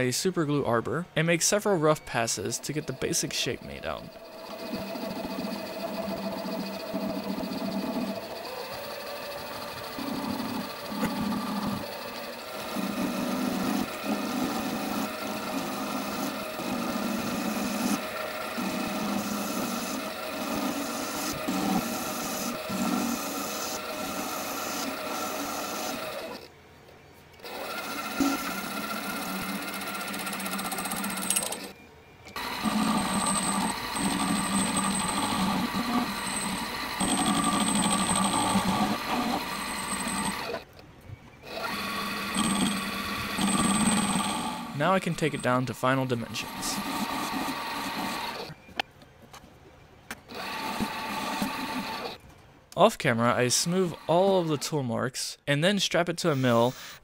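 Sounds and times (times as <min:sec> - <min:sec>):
lathe motor whine: 0:02.1 - 0:26.5, 0:27.4 - 0:40.8, 0:41.4 - 0:48.8, 0:50.3 - 0:52.2, 0:53.6 - 0:54.6.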